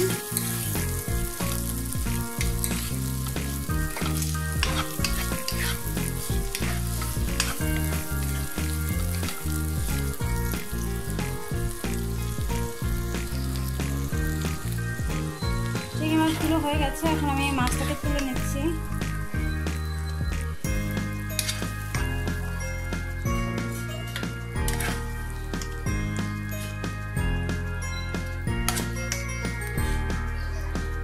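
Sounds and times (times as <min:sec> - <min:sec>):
prawns sizzling in oil: 0:00.0 - 0:30.0.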